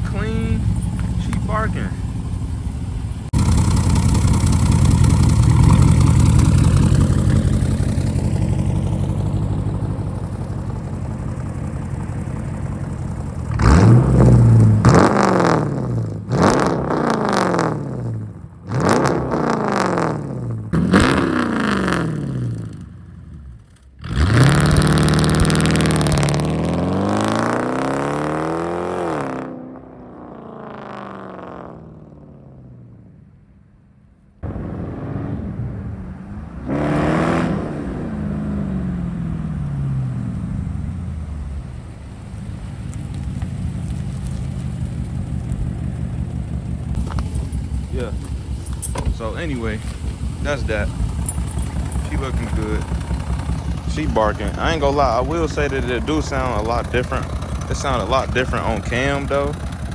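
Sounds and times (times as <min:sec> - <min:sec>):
loud vee eight engine revving: 0:00.0 - 0:23.0, 0:24.0 - 0:31.9, 0:34.4 - 0:43.9, 0:44.8 - 0:59.9.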